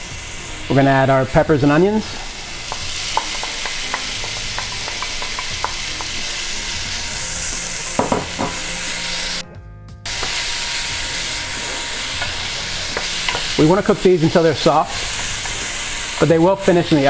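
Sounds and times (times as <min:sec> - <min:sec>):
vegetables sizzling in oil: 0:00.0 - 0:09.4, 0:10.1 - 0:17.0.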